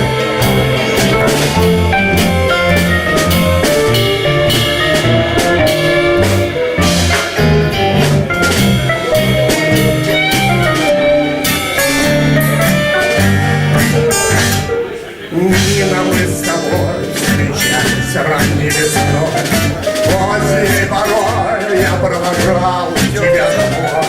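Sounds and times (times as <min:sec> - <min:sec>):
bass: 0:00.0 - 0:14.8, 0:15.4 - 0:24.0
guitar: 0:00.0 - 0:24.0
steady drum beat: 0:00.0 - 0:24.0.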